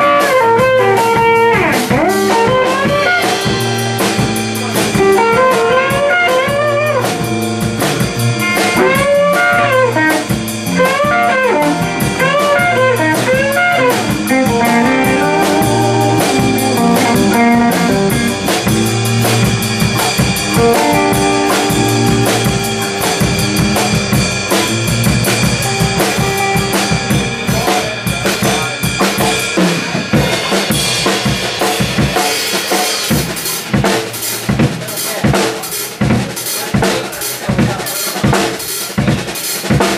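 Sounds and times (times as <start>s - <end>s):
electric bass: 0.0s - 36.4s
drum kit: 0.0s - 39.9s
electric guitars: 0.0s - 39.9s.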